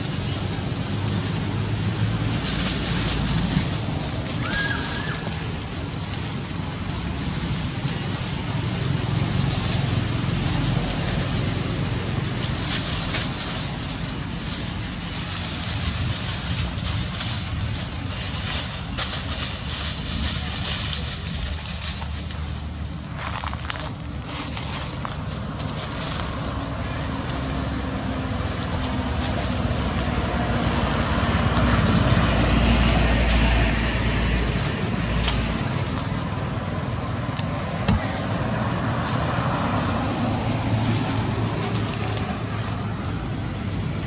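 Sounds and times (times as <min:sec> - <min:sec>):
dry leaves rustling and crackling: 0:00.0 - 0:44.0.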